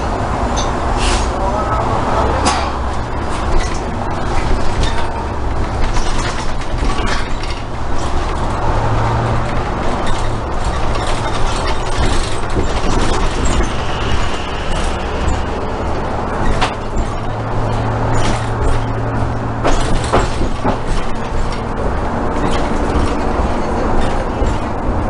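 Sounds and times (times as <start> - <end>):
bus engine drone: 0.0 - 25.0
rattles and clicks from bus: 0.0 - 25.0.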